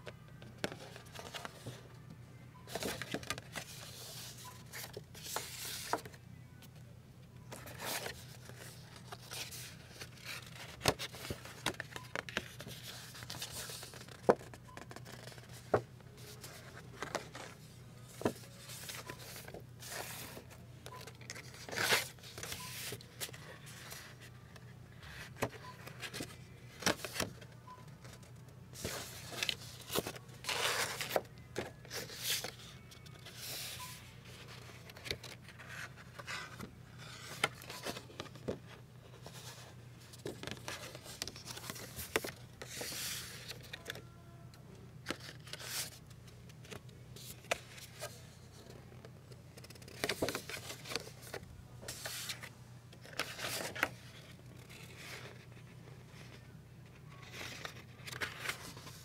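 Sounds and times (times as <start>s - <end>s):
paper cards scraping and rustling: 0.6s - 1.8s, 2.7s - 6.2s, 7.5s - 24.3s, 28.8s - 44.0s, 45.0s - 48.8s, 49.6s - 59.0s.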